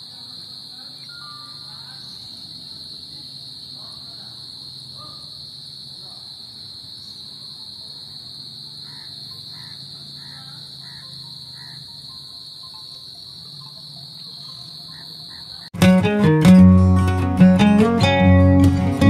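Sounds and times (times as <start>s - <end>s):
high-pitched insect trill: 0.0s - 15.8s.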